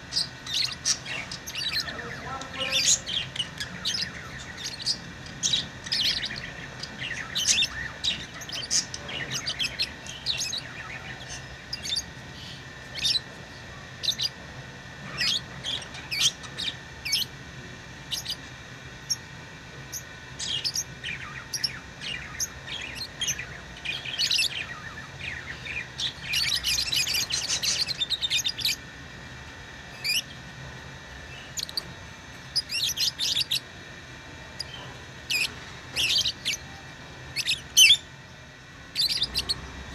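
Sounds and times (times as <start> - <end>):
parrots chattering rapidly: 0.0 - 14.4, 15.0 - 17.4, 18.0 - 19.3, 19.9 - 28.9, 30.0 - 30.4, 31.3 - 33.8, 34.5 - 36.7, 37.3 - 38.1, 38.9 - 39.9
parrots chirping: 0.0 - 17.4, 18.0 - 19.3, 19.9 - 28.9, 29.9 - 30.4, 31.3 - 33.8, 34.5 - 38.1, 38.8 - 39.9.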